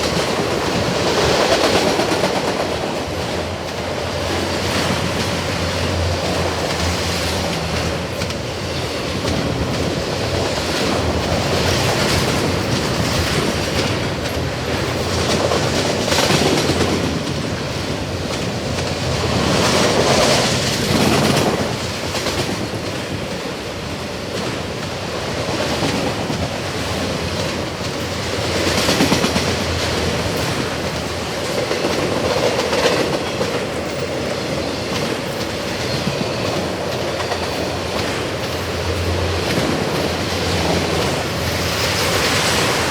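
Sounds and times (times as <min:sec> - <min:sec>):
freight train wheels on rails: 0:00.0 - 0:42.9.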